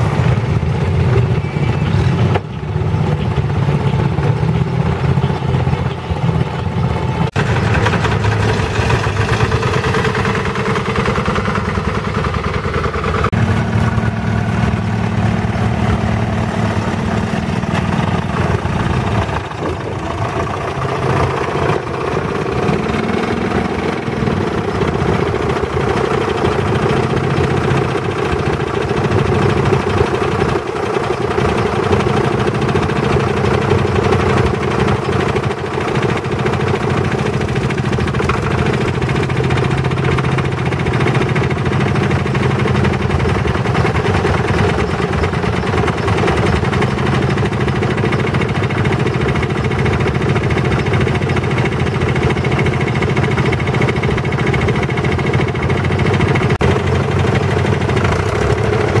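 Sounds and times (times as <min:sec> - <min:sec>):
tractor engine revving: 0:00.0 - 0:59.0
tractor engines idling: 0:00.0 - 0:59.0.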